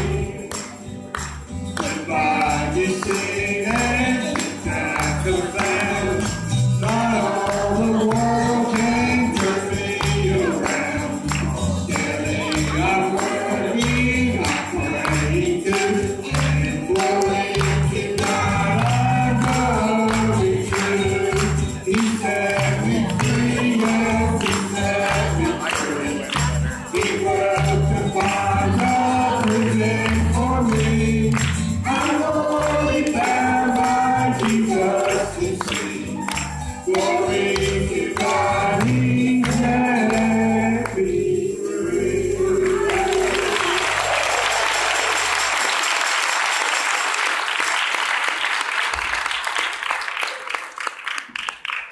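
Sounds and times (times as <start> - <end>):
man and girl singing duet: 0.0 - 0.8, 1.8 - 44.2
congregation applauding: 0.0 - 41.2, 42.6 - 51.9
acoustic guitar: 0.0 - 46.9.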